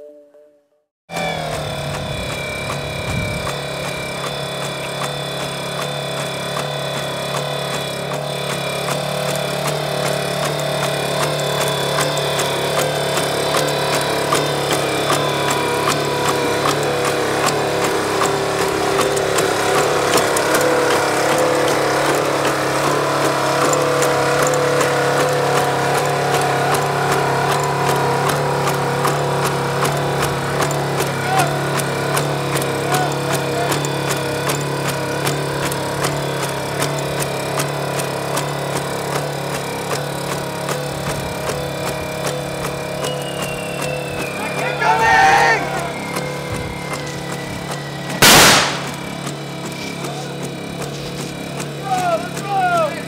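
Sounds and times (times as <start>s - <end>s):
legged robot engine running: 1.1s - 53.0s.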